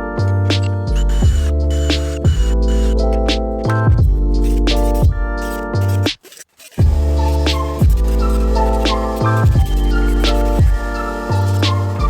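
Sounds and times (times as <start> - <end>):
music with deep bass beat: 0.0 - 6.1, 6.8 - 12.0.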